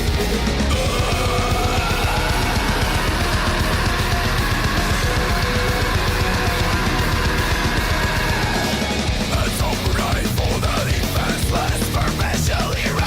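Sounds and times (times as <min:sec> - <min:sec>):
distorted electric guitar: 0:00.0 - 0:13.0
fast drum beat: 0:00.0 - 0:13.0
heavy metal music: 0:00.0 - 0:13.0.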